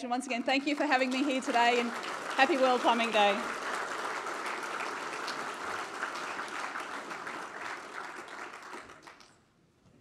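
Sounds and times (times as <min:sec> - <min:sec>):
audience applauding: 0:00.2 - 0:09.4.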